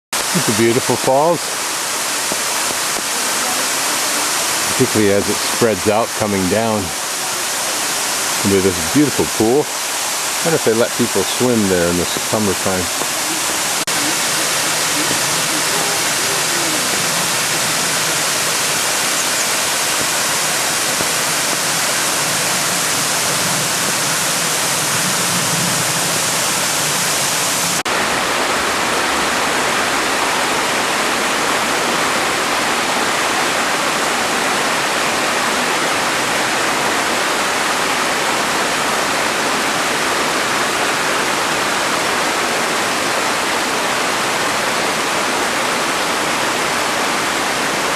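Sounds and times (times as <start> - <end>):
waterfall rushing into pool: 0.1 - 47.9.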